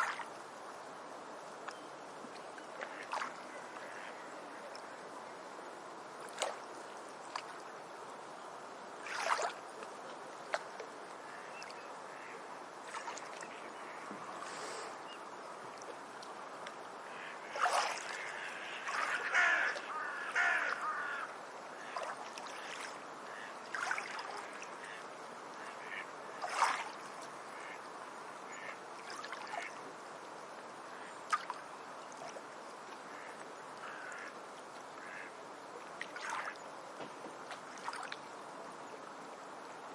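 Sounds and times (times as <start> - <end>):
beach background noise: 0.0 - 39.9.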